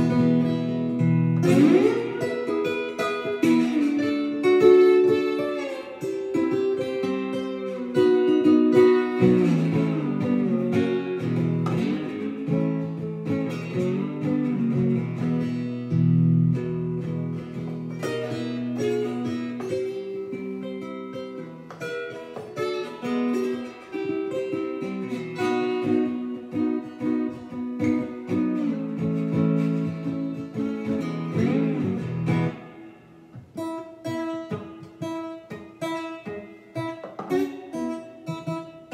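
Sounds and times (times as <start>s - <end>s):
slide guitar playing blues: 0.0s - 38.9s.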